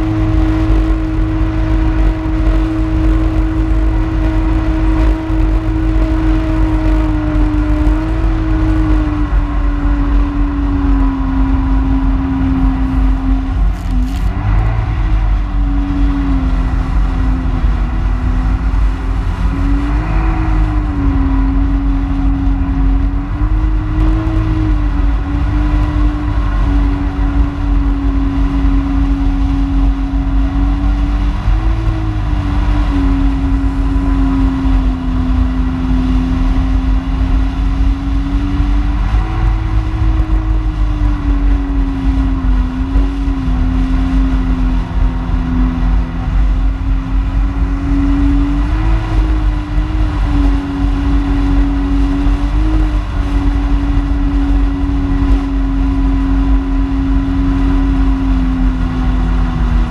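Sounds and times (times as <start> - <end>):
low rumble of wind and water: 0.0 - 59.9
watercraft engine running: 0.0 - 59.9.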